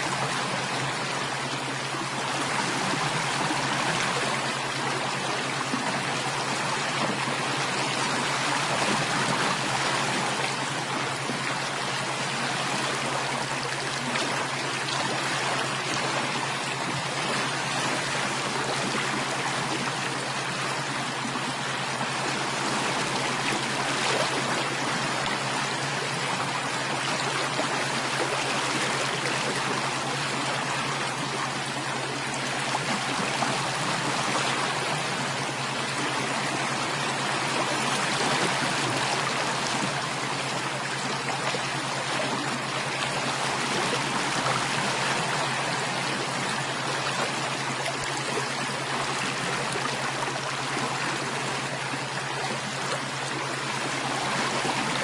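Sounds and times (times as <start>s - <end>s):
low steady hum: 0.0s - 55.0s
running water: 0.0s - 55.0s.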